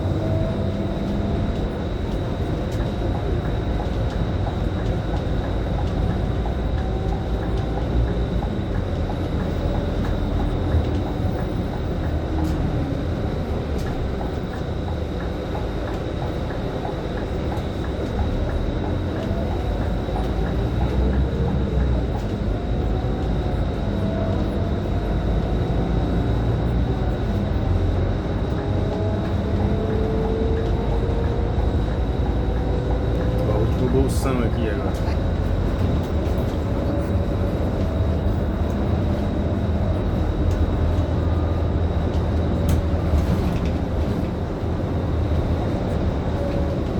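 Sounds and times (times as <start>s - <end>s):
bus engine and road noise: 0.0s - 46.9s.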